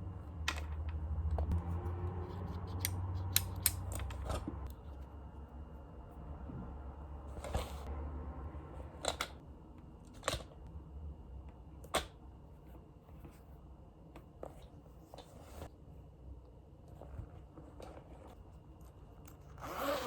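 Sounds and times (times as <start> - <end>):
low steady hum: 0.0 - 19.7.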